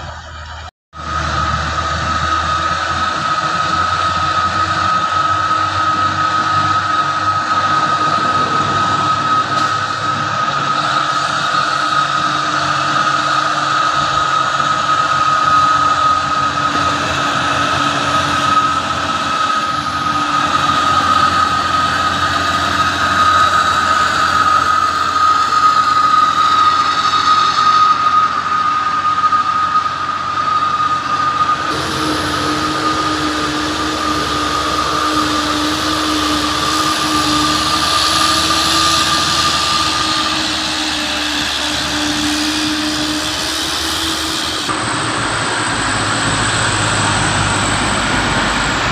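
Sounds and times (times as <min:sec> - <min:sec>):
diesel truck engine running: 0:00.0 - 0:48.9
high whine: 0:00.0 - 0:48.9.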